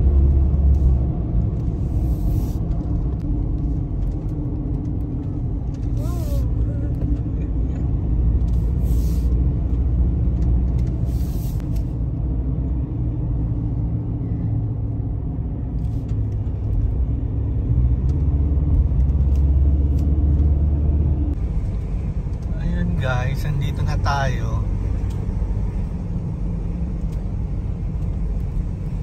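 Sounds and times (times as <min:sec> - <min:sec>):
engine and road noise in car cab: 0:00.0 - 0:29.0.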